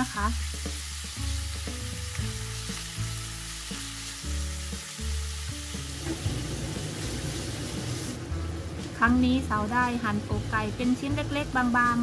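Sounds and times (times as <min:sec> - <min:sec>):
chicken sizzling in a wok: 0:00.0 - 0:12.0
soft background music: 0:00.0 - 0:12.0.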